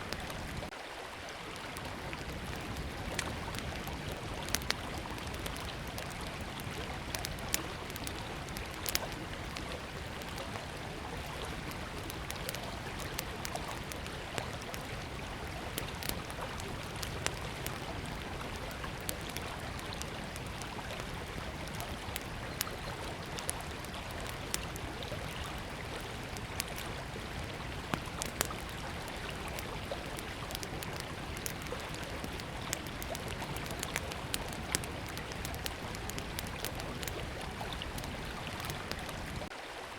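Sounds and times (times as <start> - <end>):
campfire crackling and popping: 0.0 - 0.8, 1.5 - 39.5.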